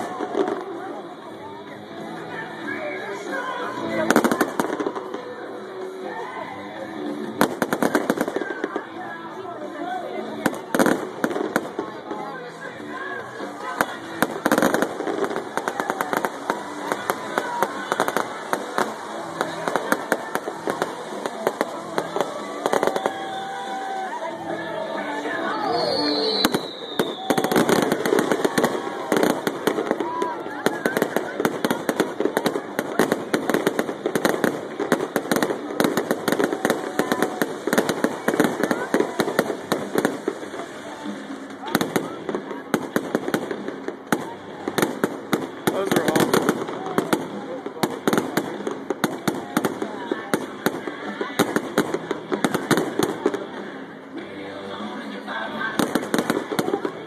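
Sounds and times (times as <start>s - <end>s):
fireworks popping and crackling: 0.0s - 1.4s, 3.1s - 24.4s, 25.0s - 54.1s, 55.6s - 57.0s.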